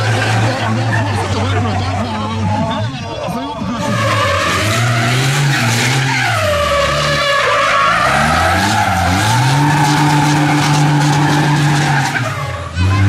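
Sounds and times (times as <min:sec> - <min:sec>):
diesel engine revving hard: 0:00.0 - 0:02.4, 0:03.6 - 0:13.0
tyres spinning and squealing: 0:00.0 - 0:13.0.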